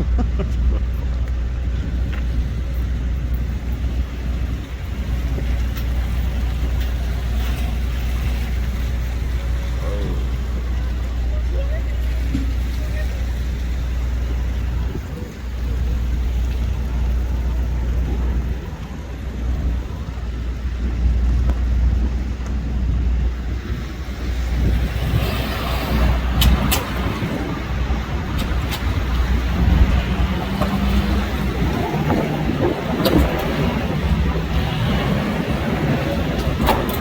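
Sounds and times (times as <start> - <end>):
traffic on a wet road: 0.0 - 37.0.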